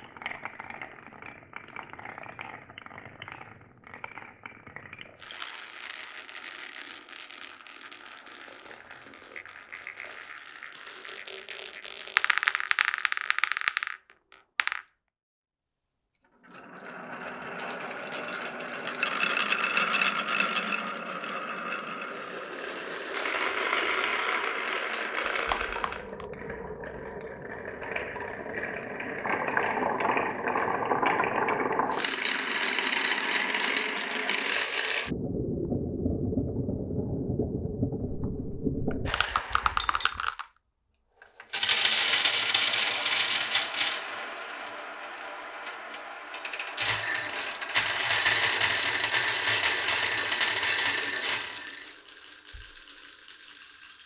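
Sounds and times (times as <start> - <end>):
marbles rolling through wooden run: 0.0 - 15.0, 16.5 - 35.2, 39.0 - 40.6, 41.3 - 54.0.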